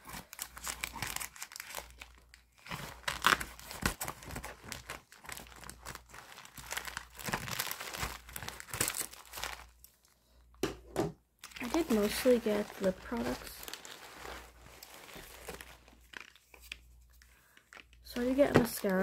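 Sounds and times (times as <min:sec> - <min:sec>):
plastic bag crinkling: 0:00.0 - 0:10.2, 0:11.4 - 0:19.0.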